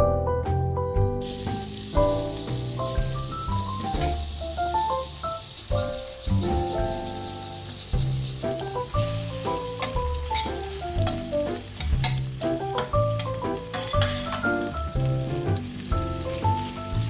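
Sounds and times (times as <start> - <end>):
background music: 0.0 - 4.9, 5.6 - 17.0
food sizzling and crackling: 1.2 - 17.0.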